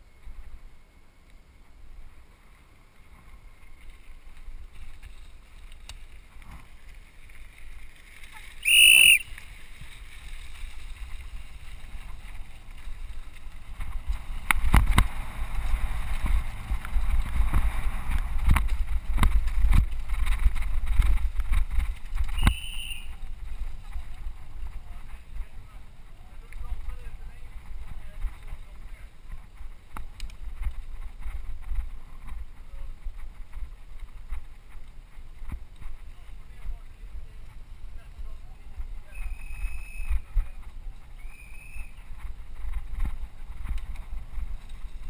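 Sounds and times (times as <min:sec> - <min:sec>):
bike rolling over gravel: 0:00.0 - 0:45.0.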